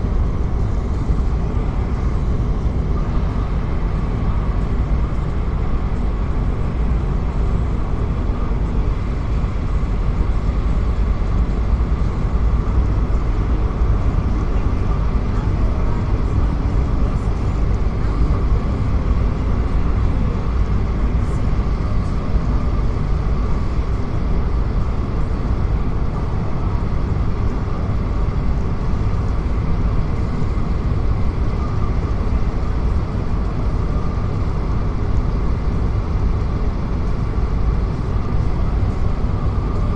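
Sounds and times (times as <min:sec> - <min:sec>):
vehicle rumble with faint whine: 0:00.0 - 0:39.9.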